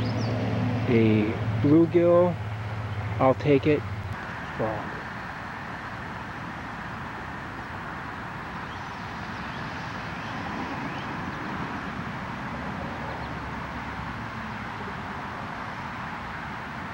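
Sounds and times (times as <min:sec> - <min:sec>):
freeway traffic noise: 0:00.0 - 0:16.9.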